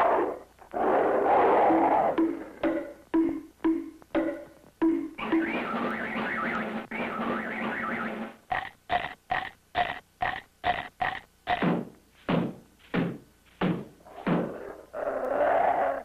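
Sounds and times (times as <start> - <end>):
cartoon beating knocks: 1.7 - 14.5.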